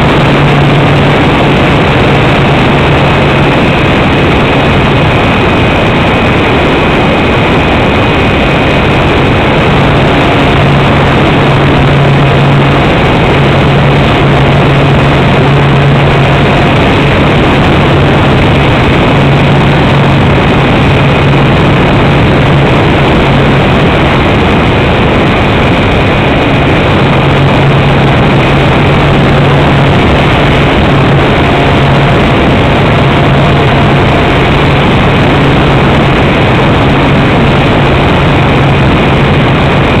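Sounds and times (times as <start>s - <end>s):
airflow rushing: 0.0s - 40.0s
propeller motor humming: 0.0s - 40.0s.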